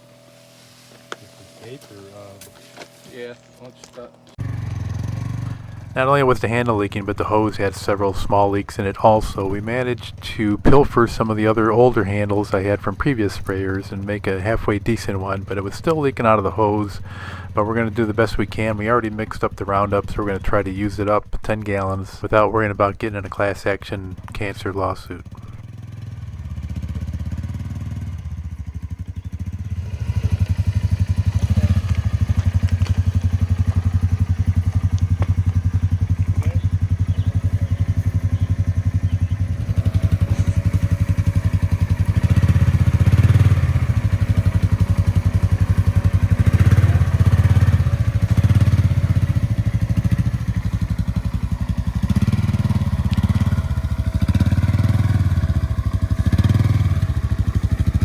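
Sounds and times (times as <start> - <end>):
utility vehicle engine rumbling: 0.0 - 58.0.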